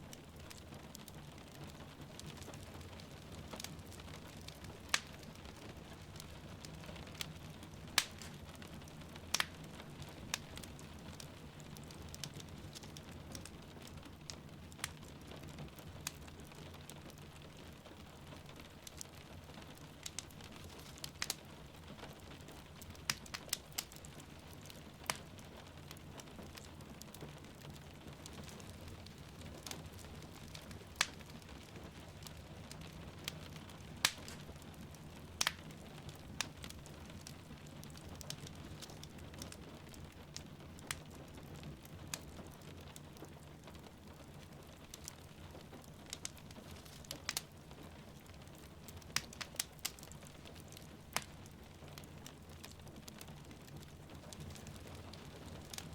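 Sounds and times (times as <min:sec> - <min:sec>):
wood fire crackling and popping: 0:00.0 - 0:55.9
rain falling: 0:00.1 - 0:55.9.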